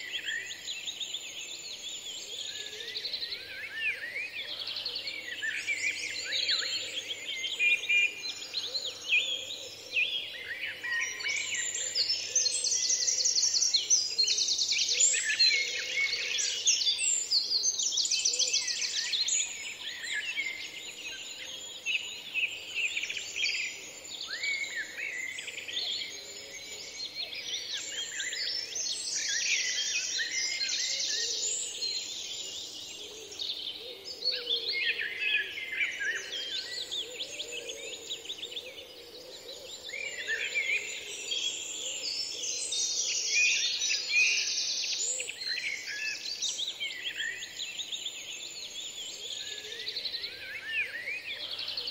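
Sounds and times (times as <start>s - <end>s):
small birds chirping and trilling: 0.0s - 51.9s.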